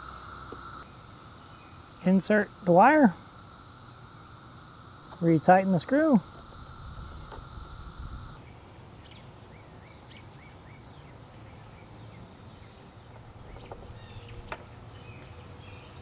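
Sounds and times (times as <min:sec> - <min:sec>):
small birds chirping: 0:00.0 - 0:08.4, 0:09.0 - 0:16.0.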